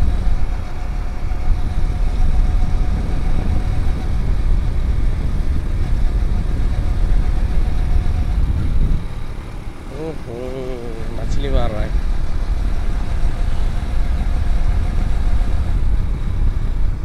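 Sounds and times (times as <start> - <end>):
wind rumble on microphone: 0.0 - 9.8, 11.0 - 17.0
motorcycle engine running: 0.0 - 17.0.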